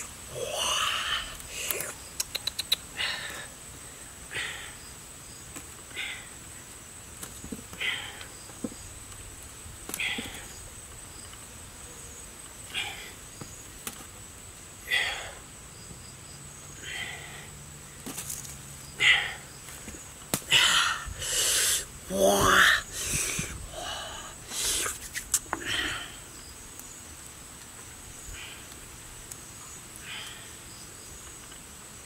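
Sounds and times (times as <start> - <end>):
high insect drone: 0.0 - 32.0.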